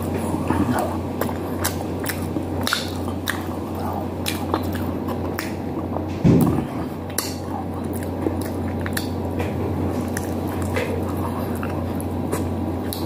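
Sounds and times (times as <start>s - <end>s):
steady low hum: 0.0s - 13.0s
wet chewing and mouth smacking: 0.0s - 13.0s.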